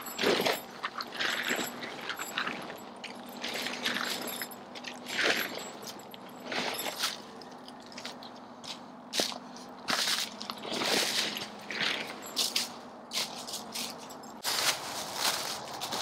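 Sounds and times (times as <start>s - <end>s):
tent rustling and crinkling: 0.0s - 8.2s, 9.9s - 16.0s.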